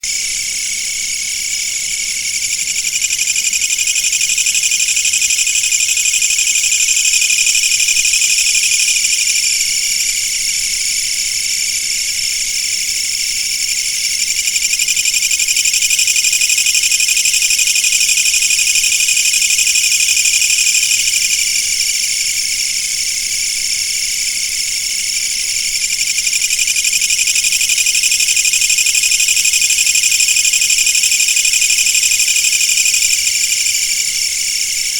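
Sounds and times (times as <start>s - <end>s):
insects buzzing trill: 0.0s - 34.9s.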